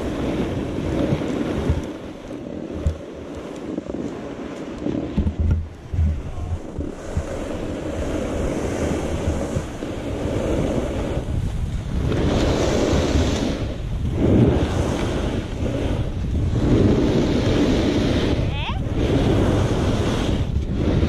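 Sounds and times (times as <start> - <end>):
snowboard edge scraping snow: 0.0 - 21.0
wind buffeting microphone: 0.0 - 21.0.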